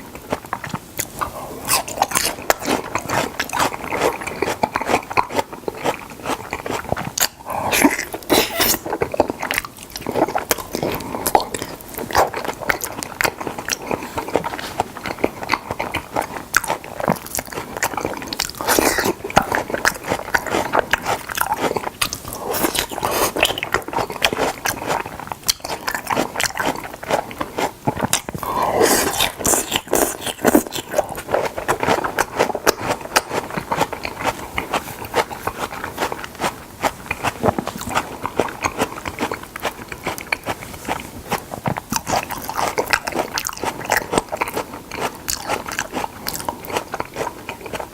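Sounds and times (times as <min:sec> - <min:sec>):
wet chewing and smacking: 0:00.0 - 0:47.9.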